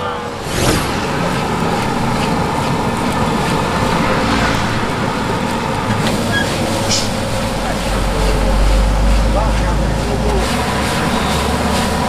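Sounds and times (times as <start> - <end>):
steady rumbling noise: 0.0 - 12.0.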